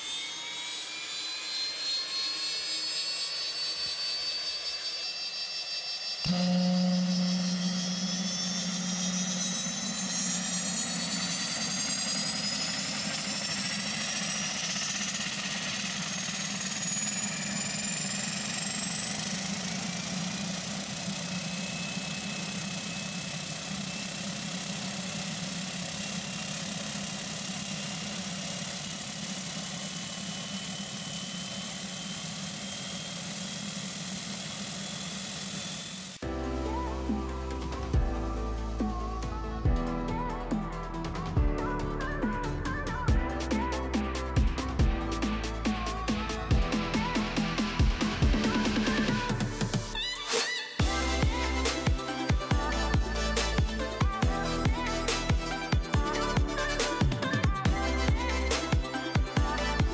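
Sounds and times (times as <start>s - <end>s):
turbine engine whine: 0.0s - 59.9s
low propeller hum: 6.2s - 50.0s, 50.8s - 59.9s.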